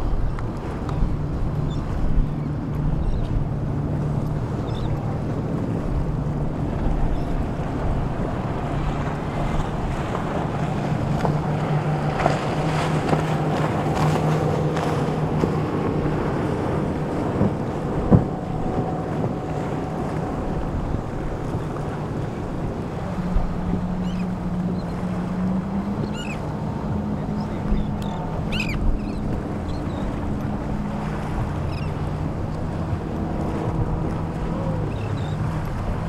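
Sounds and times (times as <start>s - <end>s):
motorboat engines droning: 0.0s - 36.0s
water noise: 0.0s - 36.0s
wind on microphone: 0.0s - 36.0s.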